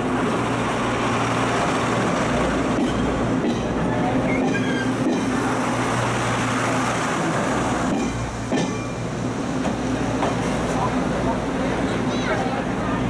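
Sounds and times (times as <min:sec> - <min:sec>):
diesel railcar passing: 0:00.0 - 0:13.0.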